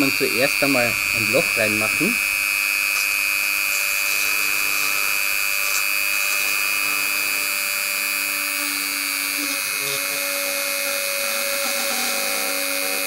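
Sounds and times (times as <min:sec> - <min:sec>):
rotary tool cutting plastic: 0:00.0 - 0:13.0.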